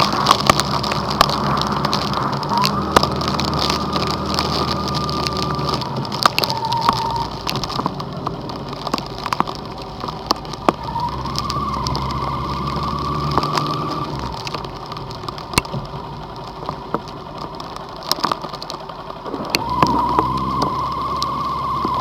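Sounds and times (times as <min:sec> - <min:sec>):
engine hum: 0:00.0 - 0:22.0
heavy rain on a vehicle: 0:00.0 - 0:22.0.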